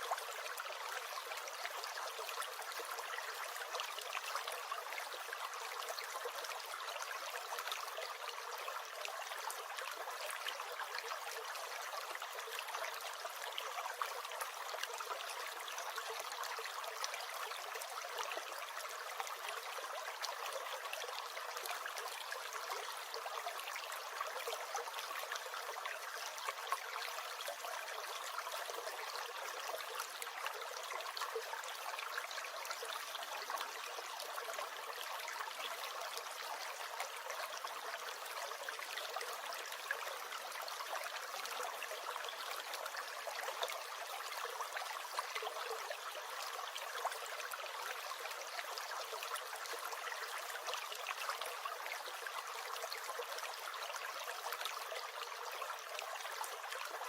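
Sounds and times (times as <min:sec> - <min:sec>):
stream gurgling and trickling: 0:00.0 - 0:57.0.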